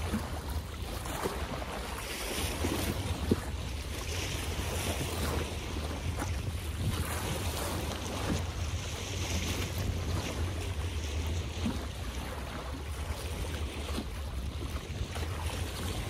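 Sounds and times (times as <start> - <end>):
water splashing and lapping: 0.0 - 16.0
wind buffeting microphone: 0.0 - 16.0.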